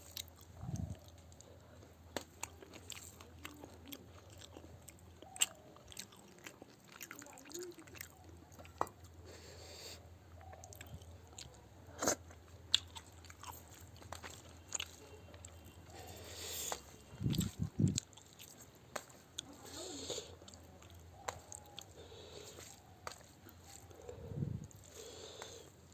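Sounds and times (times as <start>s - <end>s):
chewing with wet mouth sounds: 0.0s - 25.9s.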